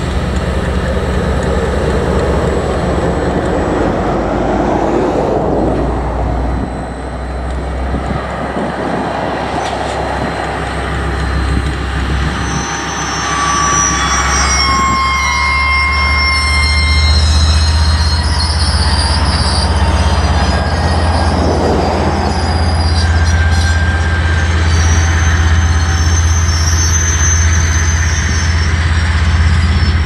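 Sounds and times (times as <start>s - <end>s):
locomotive engine droning: 0.0s - 30.0s
wagon wheels squealing: 0.0s - 30.0s.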